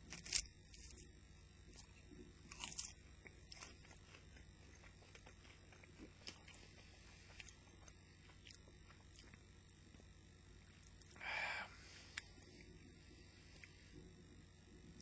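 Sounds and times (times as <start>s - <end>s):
person chewing crunchy food: 0.0s - 14.2s.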